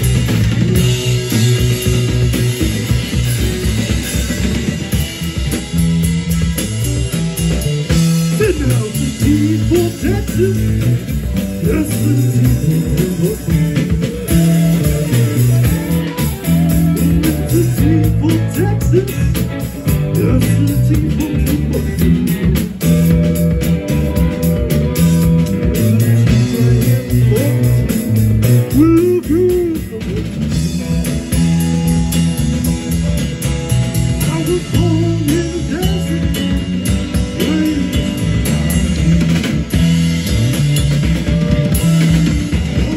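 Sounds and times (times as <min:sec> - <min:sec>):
bass guitar: 0:00.0 - 0:42.9
drum kit: 0:00.0 - 0:42.9
electric guitar bending notes: 0:00.0 - 0:42.9.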